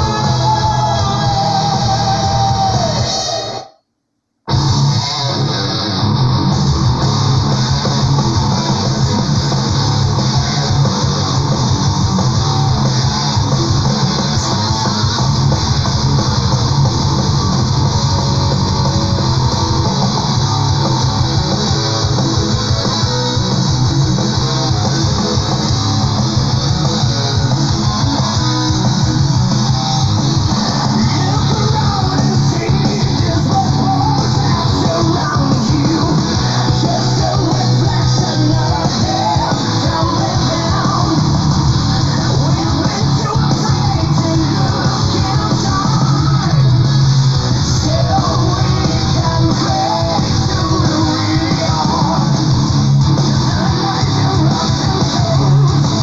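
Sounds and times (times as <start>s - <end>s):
metal band playing: 0.0s - 3.6s, 4.5s - 56.0s.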